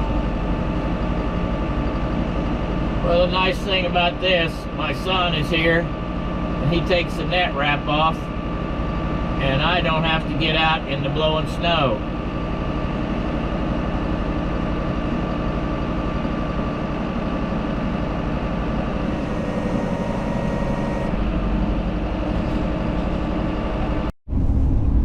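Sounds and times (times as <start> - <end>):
deep engine rumble: 0.0 - 25.0
faint whine: 0.0 - 25.0
tractor engine running: 0.0 - 25.0.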